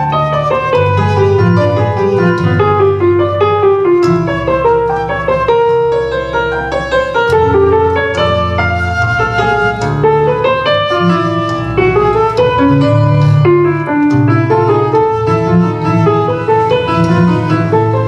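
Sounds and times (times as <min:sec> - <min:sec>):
keyboard instrument baroque music: 0:00.0 - 0:18.0.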